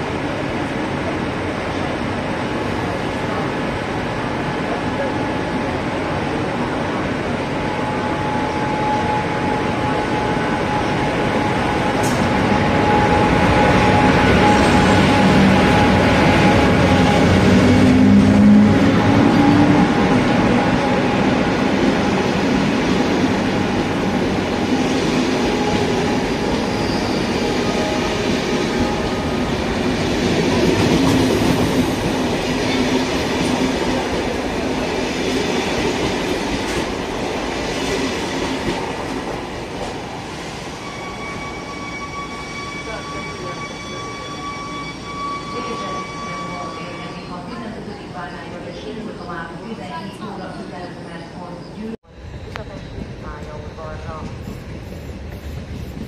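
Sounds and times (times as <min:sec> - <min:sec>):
electric locomotive whine: 0:00.0 - 0:56.0
train coaches rolling past: 0:00.0 - 0:56.0.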